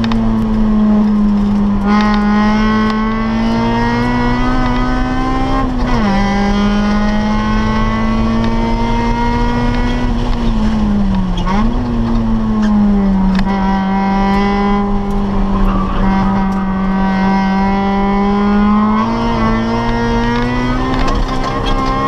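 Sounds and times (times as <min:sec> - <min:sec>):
car engine revving at high revs: 0:00.0 - 0:22.0.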